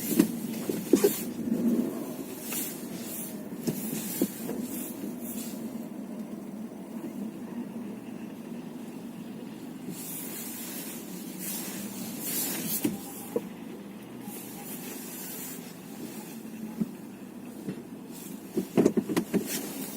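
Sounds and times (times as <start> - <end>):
road and engine rumble: 0.0 - 19.9.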